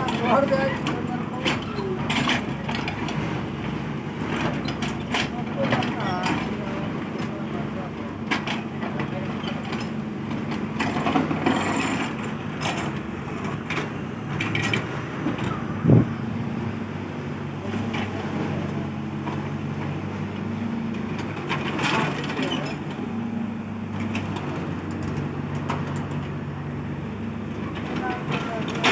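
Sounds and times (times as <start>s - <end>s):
excavator diesel engine hum: 0.0s - 28.9s.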